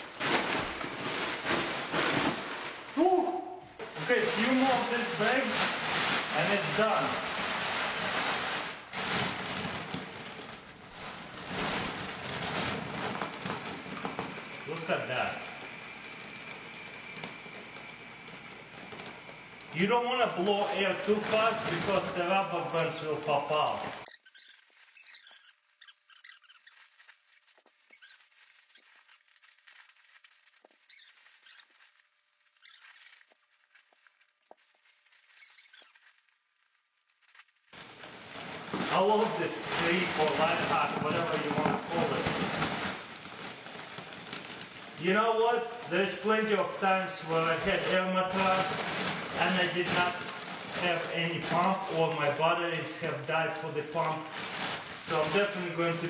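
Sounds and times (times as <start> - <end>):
plastic bag crinkling: 0.0 - 56.0.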